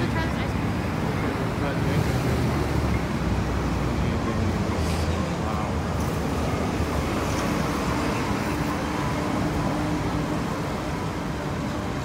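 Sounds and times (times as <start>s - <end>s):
city traffic rumble: 0.0s - 12.0s
street hubbub: 0.0s - 12.0s.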